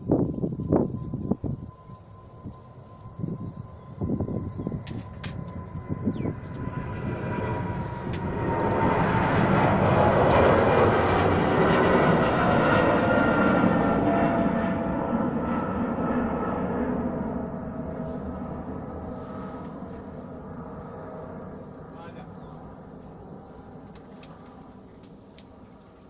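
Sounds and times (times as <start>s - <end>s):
jet engine roar: 0.0s - 26.0s.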